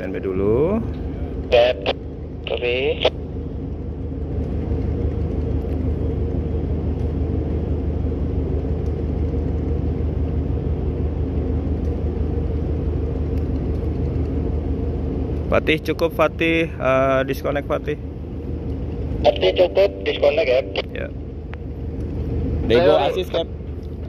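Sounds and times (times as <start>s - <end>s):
ship engines rumbling: 0.0s - 24.0s.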